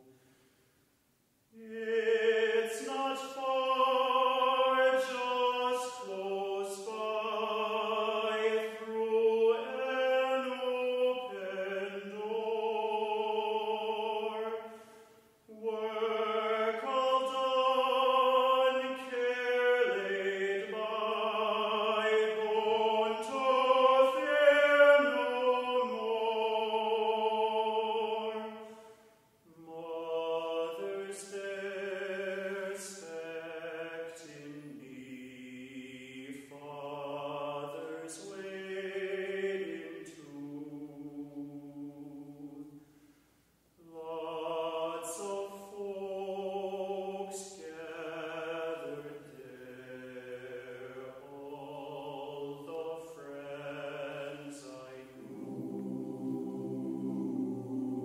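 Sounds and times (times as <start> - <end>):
mixed choir singing: 1.6 - 14.7, 15.5 - 28.6, 29.6 - 42.7, 43.9 - 58.0.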